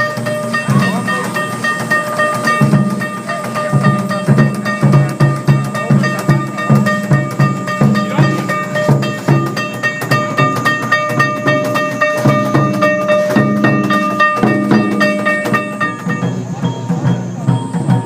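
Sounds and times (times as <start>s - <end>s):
level crossing warning bell: 0.0s - 18.0s
metallic gong strikes: 0.0s - 18.0s
taiko drumming: 0.0s - 18.0s.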